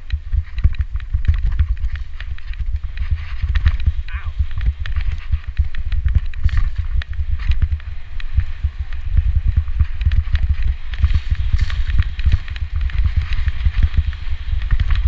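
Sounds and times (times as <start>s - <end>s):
bike clattering over bumps: 0.0s - 15.0s
wind rumble on microphone: 0.0s - 15.0s.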